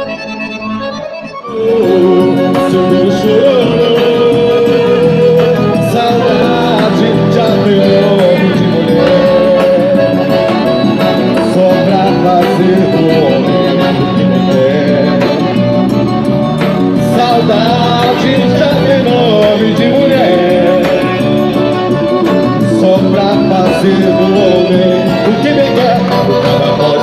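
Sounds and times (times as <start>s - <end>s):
folk song with full accompaniment: 0.0s - 27.0s.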